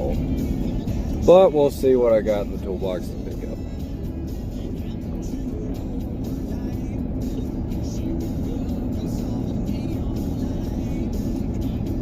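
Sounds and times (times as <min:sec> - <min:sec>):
background music: 0:00.0 - 0:12.0
truck engine and road rumble: 0:00.0 - 0:12.0.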